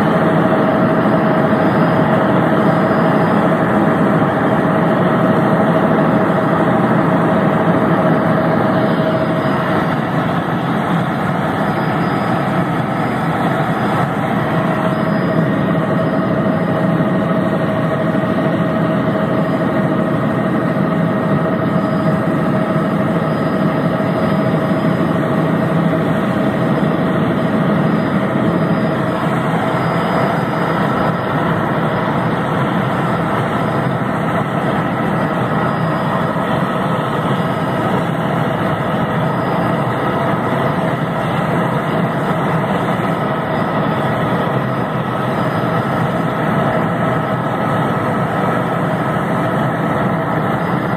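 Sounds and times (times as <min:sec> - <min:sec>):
faint whining tones: 0:00.0 - 0:50.9
helicopter engine and rotor noise: 0:00.0 - 0:50.9.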